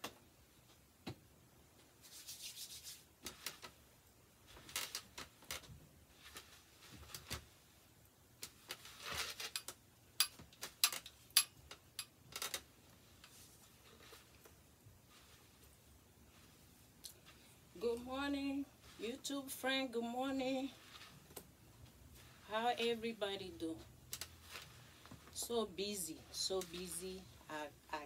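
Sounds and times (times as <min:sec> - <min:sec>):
hands rustling wig hair: 0:01.8 - 0:11.8, 0:12.4 - 0:28.0.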